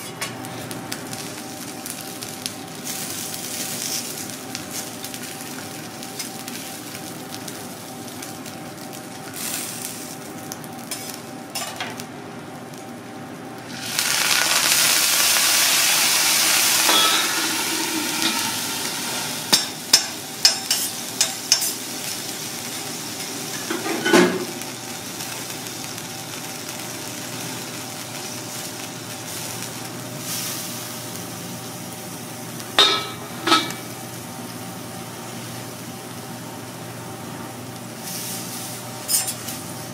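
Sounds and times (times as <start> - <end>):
prawn sizzling on a griddle: 0.0 - 39.9.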